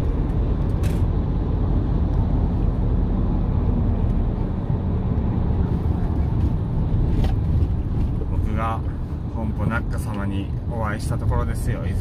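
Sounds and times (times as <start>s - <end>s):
truck engine and tyres drone: 0.0s - 12.0s.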